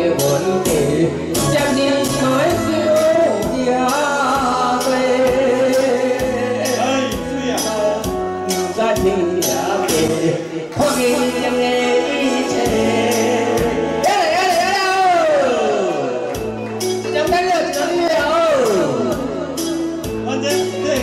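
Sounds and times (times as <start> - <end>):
man singing into microphone: 0.0 - 16.3, 17.0 - 19.4
karaoke backing track with beat: 0.0 - 21.0.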